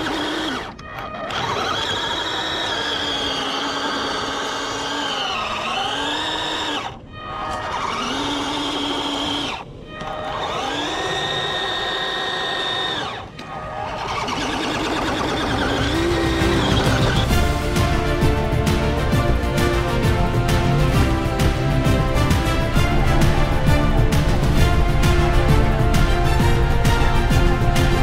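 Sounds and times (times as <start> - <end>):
electric motor and gearbox whining: 0.0 - 28.0.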